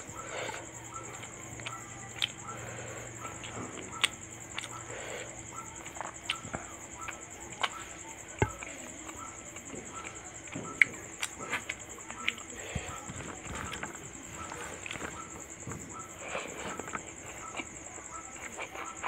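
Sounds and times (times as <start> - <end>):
chewing and lip smacks: 0.0 - 19.0
high insect trill: 0.0 - 19.0.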